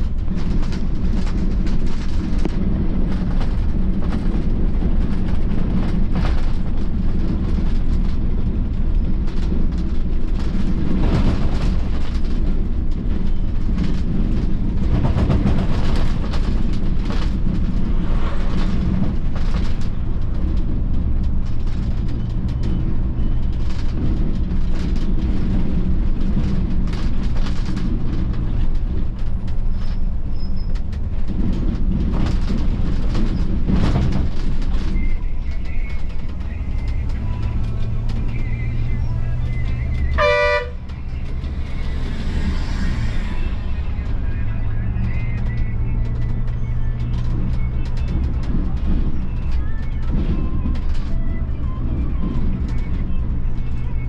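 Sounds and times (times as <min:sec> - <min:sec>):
bus diesel engine droning: 0:00.0 - 0:54.0
bus rattling on rough road: 0:00.0 - 0:54.0
road noise: 0:00.0 - 0:54.0.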